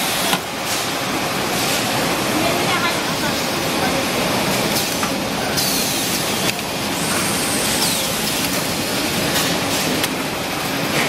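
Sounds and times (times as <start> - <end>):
packing machine noise: 0.0 - 11.0.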